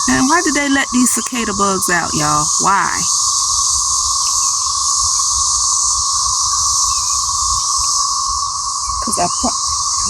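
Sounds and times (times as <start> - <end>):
cicadas buzzing: 0.0 - 10.0.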